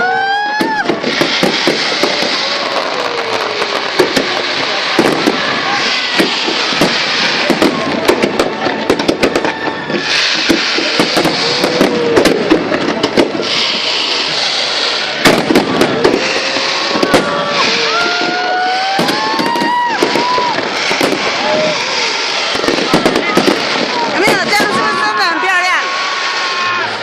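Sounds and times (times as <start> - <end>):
fireworks crackling and banging: 0.0 - 27.0
fireworks hiss: 0.0 - 27.0.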